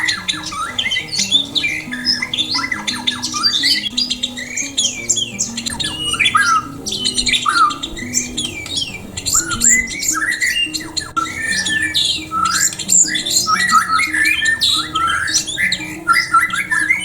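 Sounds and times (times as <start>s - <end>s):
aviary birds chirping: 0.0s - 17.0s
background music: 0.0s - 17.0s.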